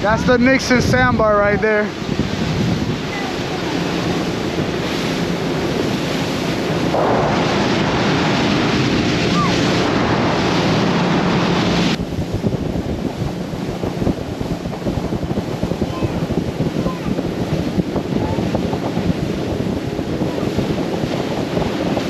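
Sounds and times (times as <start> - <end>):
outboard engine hum: 0.0 - 22.0
water rushing from hull: 0.0 - 22.0
wind buffeting microphone: 0.0 - 22.0.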